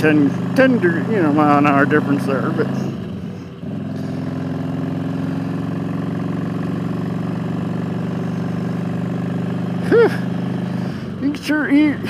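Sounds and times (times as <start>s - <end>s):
motorcycle engine drone: 0.0s - 12.0s.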